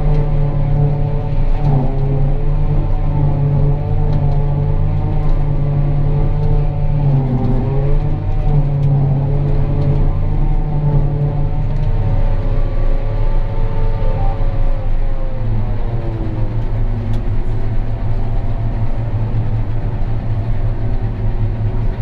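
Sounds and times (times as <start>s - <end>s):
forage harvester machinery drone: 0.0s - 22.0s.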